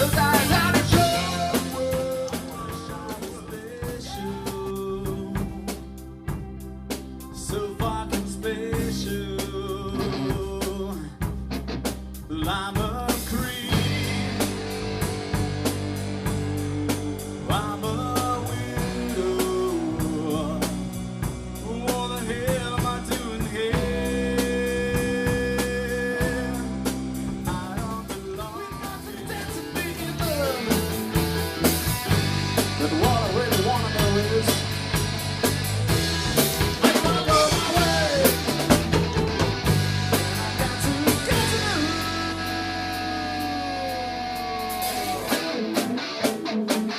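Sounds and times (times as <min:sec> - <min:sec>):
person singing: 0:00.0 - 0:11.4, 0:12.2 - 0:31.4, 0:32.6 - 0:35.0, 0:36.6 - 0:46.9
bass guitar: 0:00.0 - 0:46.9
drum kit: 0:00.0 - 0:46.9
rock band playing: 0:00.0 - 0:46.9.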